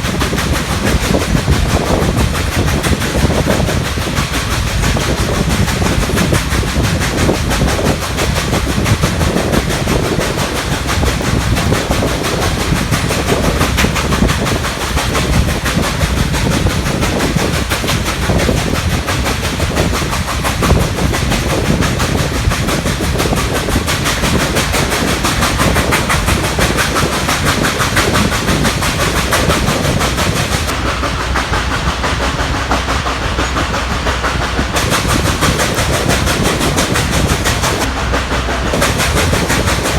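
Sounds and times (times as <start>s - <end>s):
steam locomotive exhaust beats: 0.0s - 39.9s
train clattering on rails: 0.0s - 39.9s.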